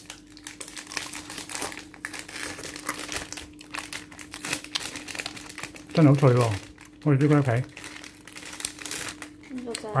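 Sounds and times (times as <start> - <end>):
faint steady hum: 0.0 - 10.0
foil wrapper crinkling: 0.0 - 10.0.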